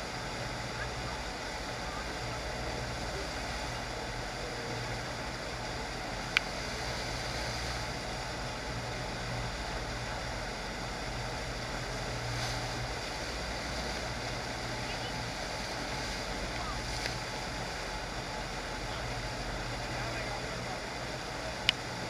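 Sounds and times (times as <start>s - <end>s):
constant low hum: 0.0s - 22.0s
rushing water wave: 0.0s - 22.0s.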